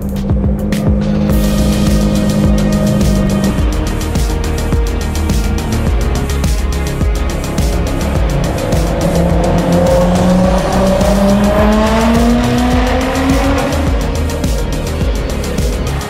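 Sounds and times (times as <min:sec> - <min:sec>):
car engine accelerating: 0:00.0 - 0:16.0
music with heavy low beat: 0:00.0 - 0:16.0.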